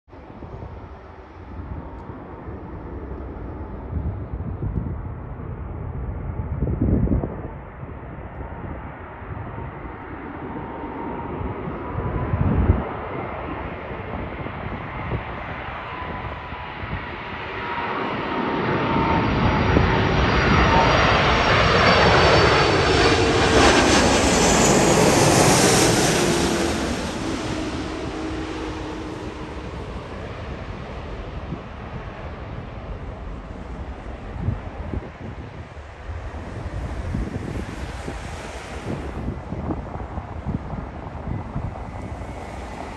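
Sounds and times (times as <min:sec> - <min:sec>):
jet airliner passing overhead: 0:00.1 - 0:42.9
wind gusts on microphone: 0:00.1 - 0:42.9.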